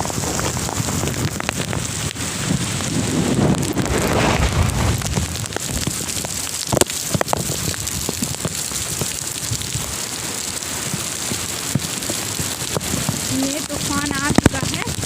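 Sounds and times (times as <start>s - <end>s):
wind buffeting microphone: 0.0s - 10.0s, 11.8s - 15.0s
heavy rain pouring: 0.0s - 15.0s
rain drops splashing: 0.0s - 15.0s.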